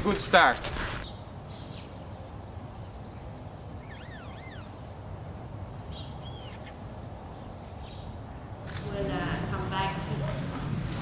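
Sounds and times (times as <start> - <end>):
birds chirping and calling: 0.0 - 10.6.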